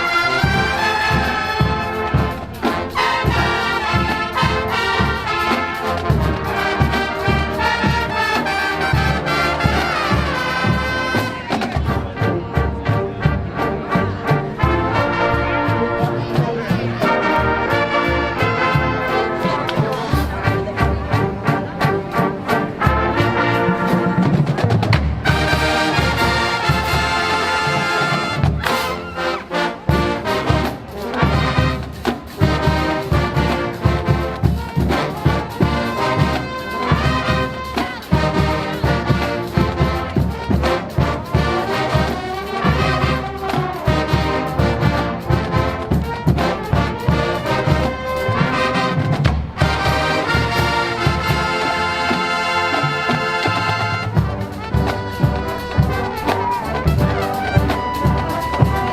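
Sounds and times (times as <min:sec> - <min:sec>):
drumline beat: 0:00.0 - 0:58.9
trumpets and trombones: 0:00.0 - 0:58.9.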